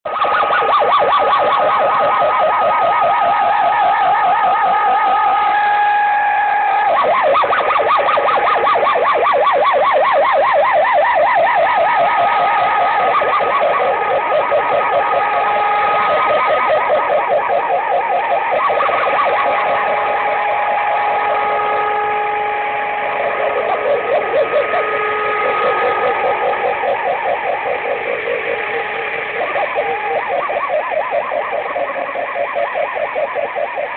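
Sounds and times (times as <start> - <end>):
radio whistle tones warbling: 0.1 - 33.9.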